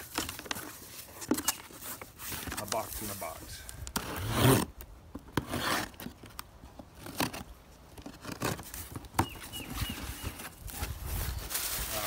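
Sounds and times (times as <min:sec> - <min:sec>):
cardboard box being opened: 0:00.0 - 0:03.4, 0:05.3 - 0:12.0.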